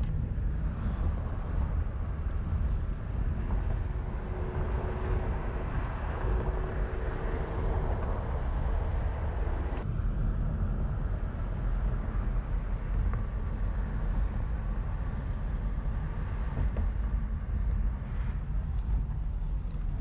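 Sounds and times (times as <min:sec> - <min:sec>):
engine and road rumble: 0:00.0 - 0:20.0
wind buffeting microphone: 0:00.0 - 0:20.0.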